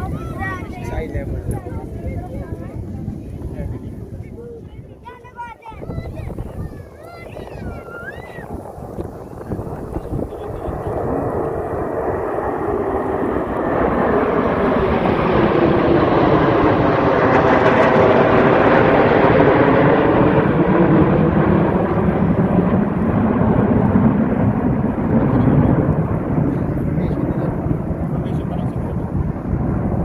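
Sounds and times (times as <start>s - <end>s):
jet aircraft flyby: 0.0s - 30.0s.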